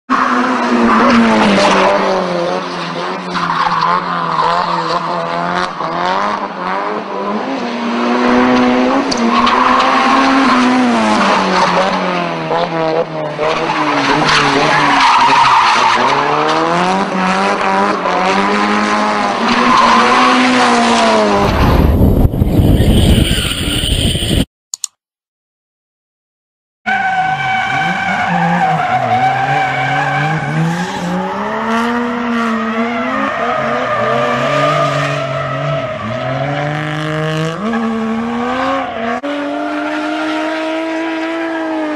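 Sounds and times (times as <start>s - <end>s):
car engines revving: 0.1s - 22.0s, 26.9s - 41.9s.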